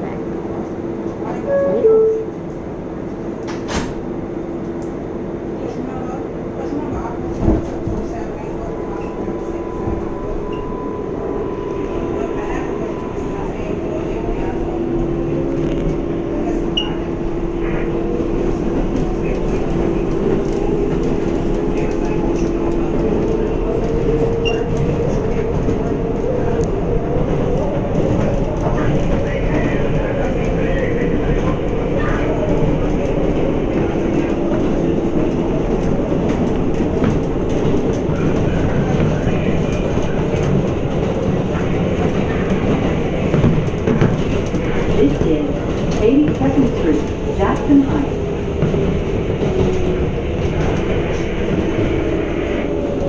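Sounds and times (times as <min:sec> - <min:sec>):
train wheels rumbling on rails: 0:02.2 - 0:53.0.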